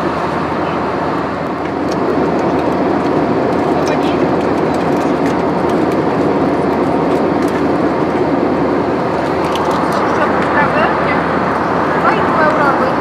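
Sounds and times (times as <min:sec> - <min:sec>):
aircraft cabin engine roar: 0:00.0 - 0:13.0.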